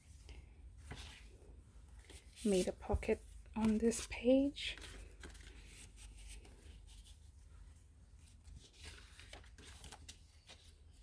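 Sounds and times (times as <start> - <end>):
paper pages rustling: 0.2 - 11.0.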